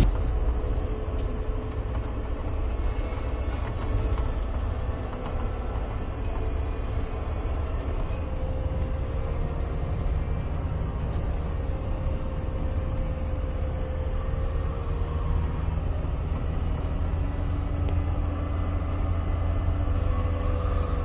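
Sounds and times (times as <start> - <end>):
diesel engine rumble: 0.0 - 21.0
faint whine: 0.0 - 21.0.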